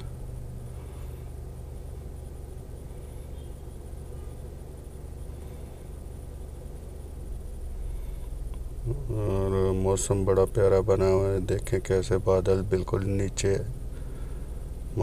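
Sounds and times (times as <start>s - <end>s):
low mechanical rumble and hum: 0.0s - 15.0s.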